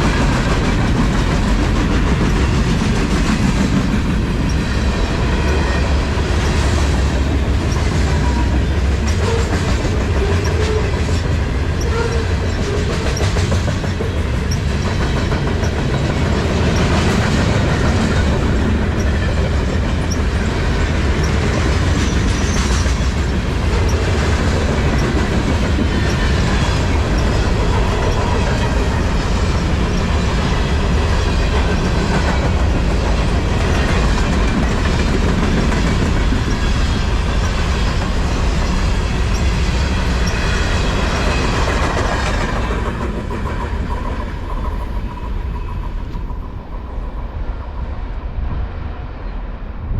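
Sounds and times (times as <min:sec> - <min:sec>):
wheels clicking over rail joints: 0:00.0 - 0:46.8
railway cars rumbling past: 0:00.0 - 0:49.9.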